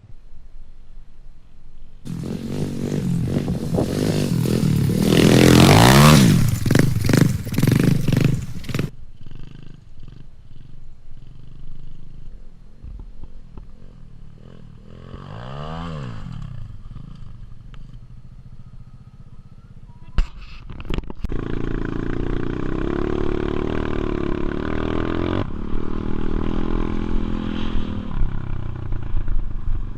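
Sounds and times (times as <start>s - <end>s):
motorbike engine revving: 2.1s - 12.2s, 13.7s - 19.8s, 21.3s - 29.9s.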